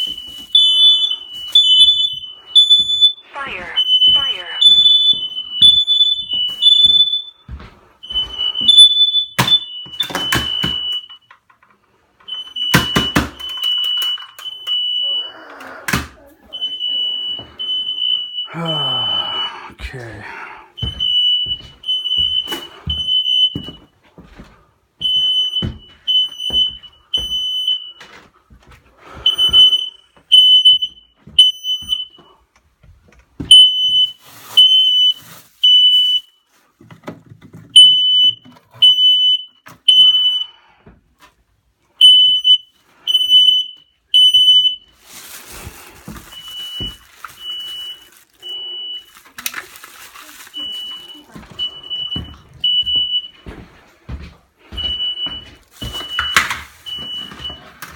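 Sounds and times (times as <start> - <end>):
smoke alarm beeping: 0.0 - 11.5, 12.2 - 19.5, 20.7 - 24.4, 25.0 - 32.4, 33.4 - 36.5, 37.6 - 40.6, 41.9 - 57.9.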